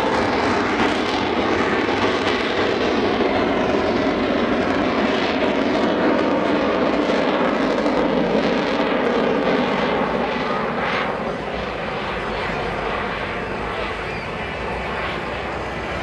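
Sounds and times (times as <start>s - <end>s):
biplane engines at high power: 0.0s - 16.0s.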